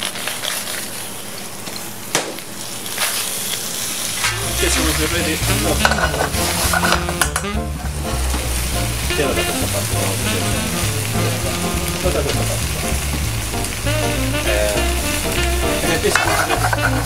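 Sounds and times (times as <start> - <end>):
food sizzling in hot pans: 0.0 - 17.0.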